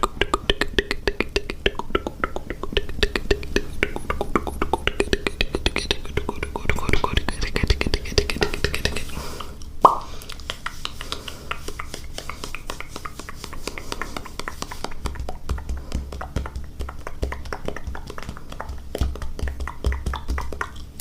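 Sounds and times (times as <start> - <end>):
mouth clicks and pops: 0.0 - 21.0.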